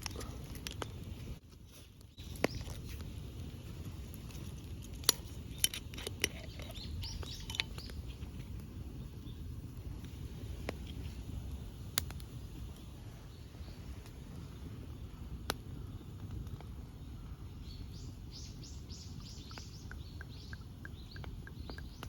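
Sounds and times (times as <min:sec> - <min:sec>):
fire low rustle: 0:00.0 - 0:19.8
bonfire crackling and popping: 0:00.0 - 0:22.0.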